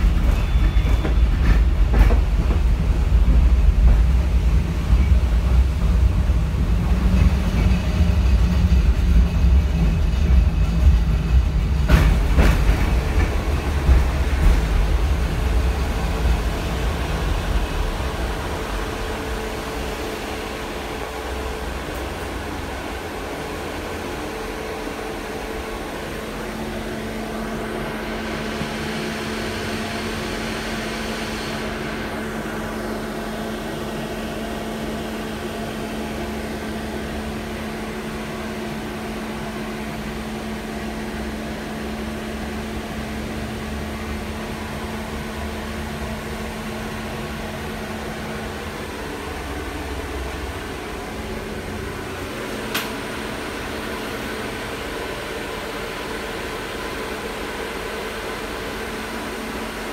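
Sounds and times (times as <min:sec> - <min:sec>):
tram wheels rumbling on rails: 0:00.0 - 0:59.9.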